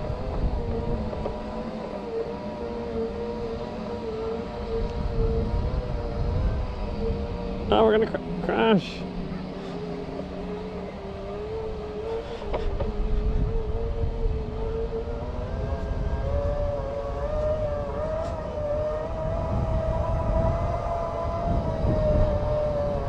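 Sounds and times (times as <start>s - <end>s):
electric motor whining: 0.0s - 23.0s
wind and tyre rumble: 0.0s - 23.0s.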